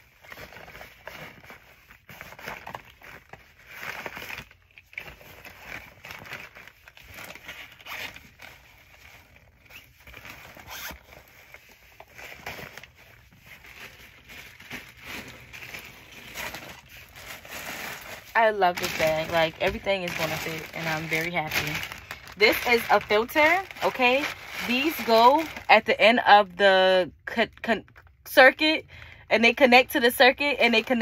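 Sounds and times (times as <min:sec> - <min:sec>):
fabric bag rustling: 0:00.0 - 0:26.0
plastic wrapping crinkling: 0:00.0 - 0:26.6, 0:29.5 - 0:31.0.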